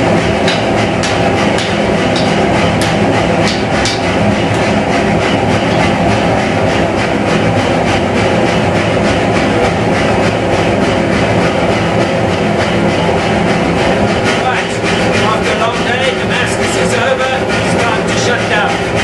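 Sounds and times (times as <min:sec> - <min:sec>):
gas forge burners roaring: 0:00.0 - 0:19.0.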